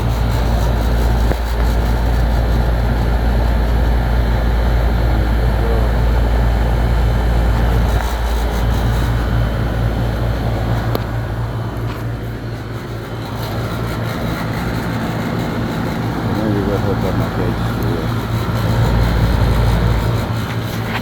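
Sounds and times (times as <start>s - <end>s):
air conditioner unit humming: 0.0s - 21.0s
fan air noise: 0.0s - 21.0s.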